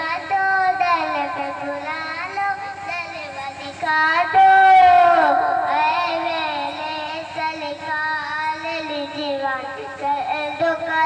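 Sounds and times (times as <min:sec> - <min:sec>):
boy singing into a microphone: 0:00.0 - 0:11.0.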